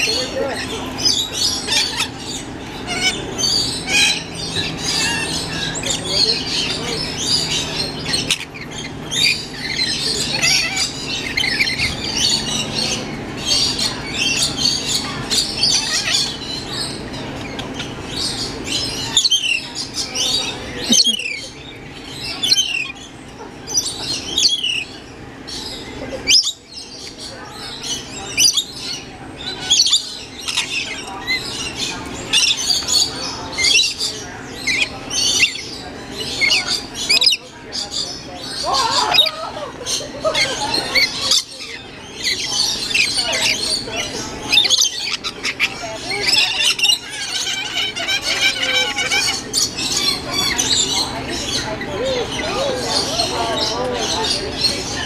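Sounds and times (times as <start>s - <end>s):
lorikeets chattering and screeching: 0.0s - 55.0s.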